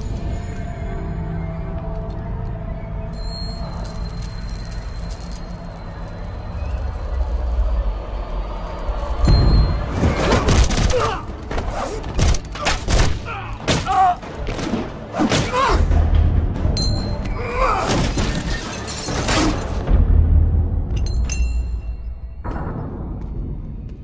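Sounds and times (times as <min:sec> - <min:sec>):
dramatic orchestral film music: 0:00.0 - 0:24.0.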